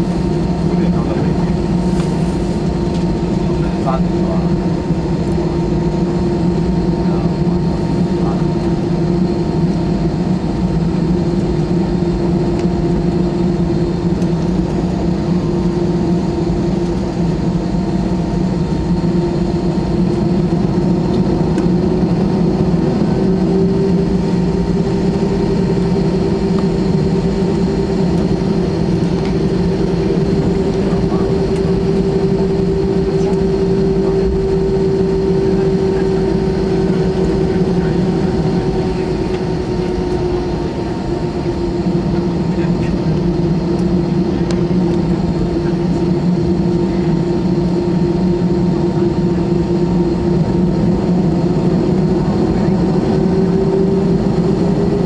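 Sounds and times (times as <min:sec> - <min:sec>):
jet engine cabin hum: 0:00.0 - 0:55.0.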